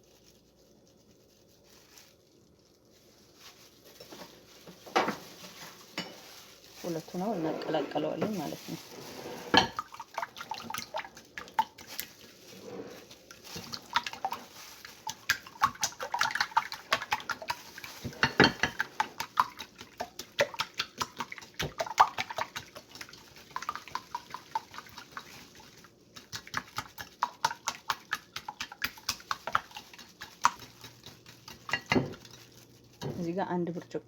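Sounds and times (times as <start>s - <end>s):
utensil beating eggs in a bowl: 3.8s - 34.0s.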